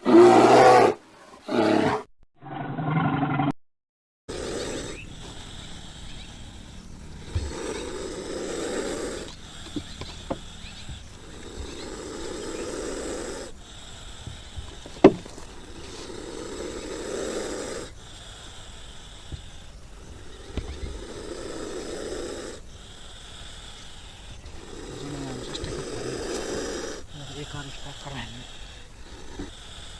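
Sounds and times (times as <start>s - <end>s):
animal snoring: 4.3s - 29.9s.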